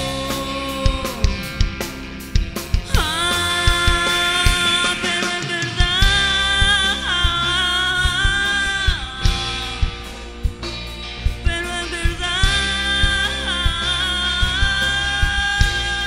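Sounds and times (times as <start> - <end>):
woman singing: 0.0 - 1.6, 2.8 - 10.0, 11.5 - 16.0
rock band playing: 0.0 - 16.0.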